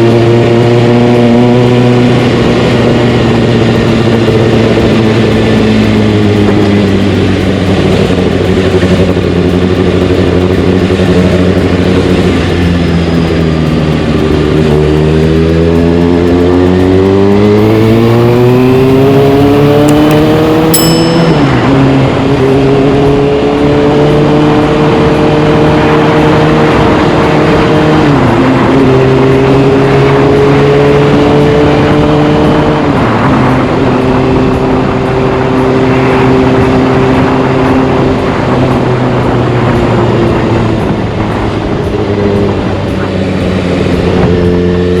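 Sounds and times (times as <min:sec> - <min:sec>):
motorcycle engine accelerating: 0:00.0 - 0:45.0
road and wind noise: 0:00.0 - 0:45.0.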